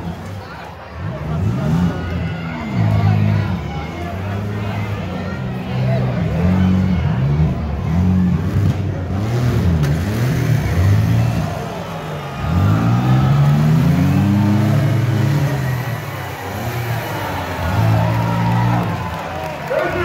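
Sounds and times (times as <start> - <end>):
engines revving hard: 0.0 - 20.0.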